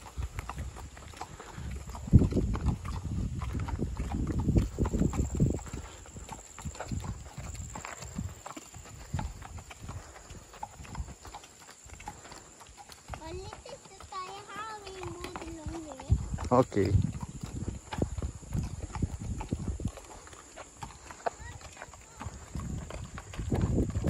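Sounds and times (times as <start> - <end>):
hooves clip-clopping on asphalt: 0.0 - 24.0.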